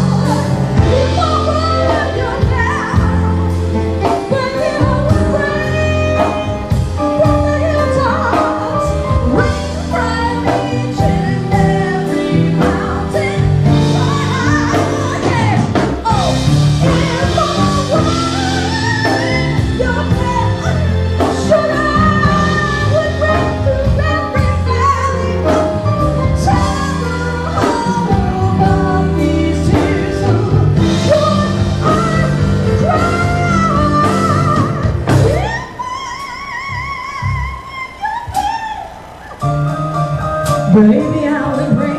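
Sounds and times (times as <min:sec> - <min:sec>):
band playing chords and bass: 0:00.0 - 0:41.9
woman singing soul ballad: 0:00.0 - 0:41.9.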